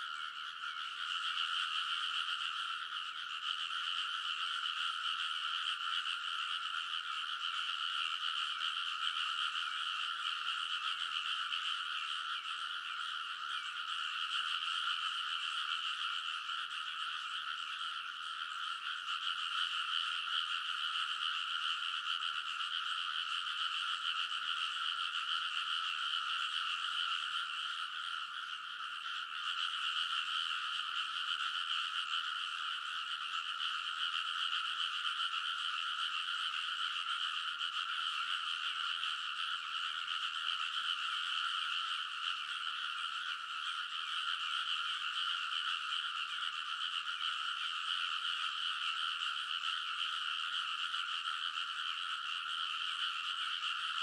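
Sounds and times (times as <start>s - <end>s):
chorus of frogs croaking: 0.0s - 54.0s.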